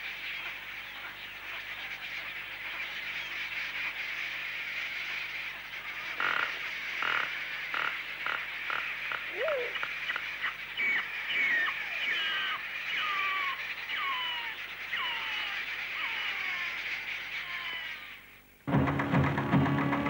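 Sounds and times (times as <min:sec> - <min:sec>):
flock of birds calling: 0:00.0 - 0:20.0.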